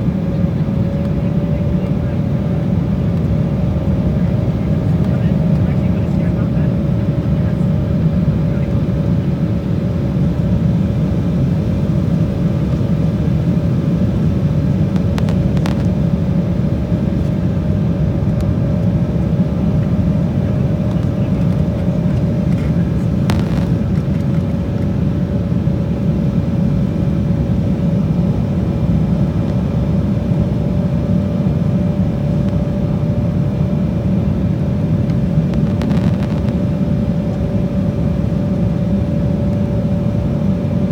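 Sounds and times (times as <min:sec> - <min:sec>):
jet cabin engine rumble: 0:00.0 - 0:40.9
steady hum: 0:00.0 - 0:40.9.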